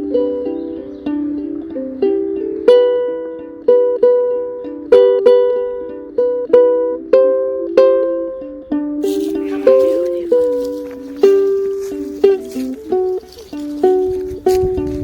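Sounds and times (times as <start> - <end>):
ukulele chords plucked: 0.0 - 15.0.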